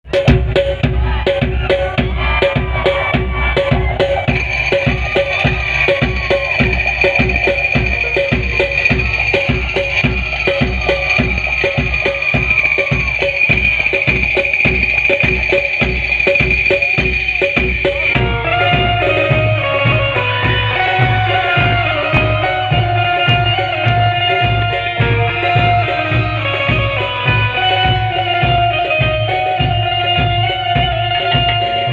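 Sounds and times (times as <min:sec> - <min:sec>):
deep bass thumps: 0:00.0 - 0:31.9
held high tone: 0:00.1 - 0:30.9
devotional music with percussion: 0:00.1 - 0:31.9.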